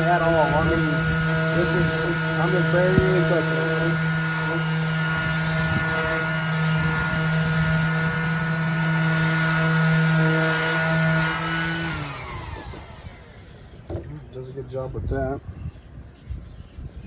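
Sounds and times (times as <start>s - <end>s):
orbital sander motor hum: 0.0s - 14.0s.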